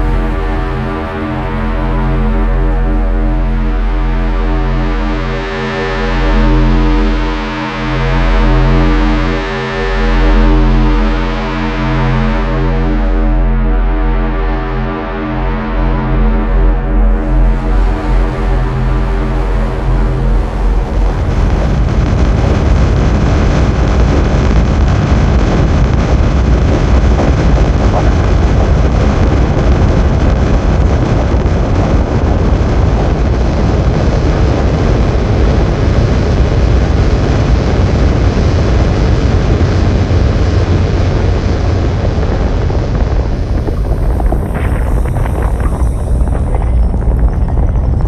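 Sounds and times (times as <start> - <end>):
spaceship engines rumbling: 0.0 - 48.0.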